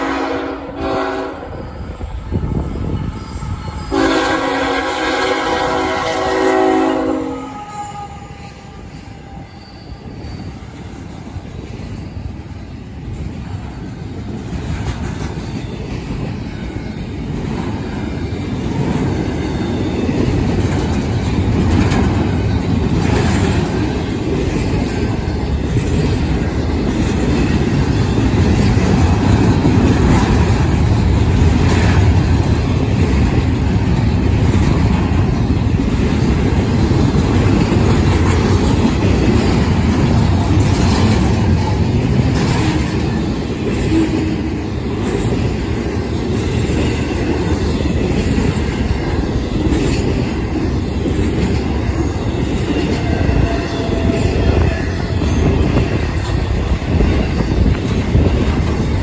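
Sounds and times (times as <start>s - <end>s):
train clanks: 0.0s - 59.0s
train wheels rushing on rails: 0.0s - 59.0s.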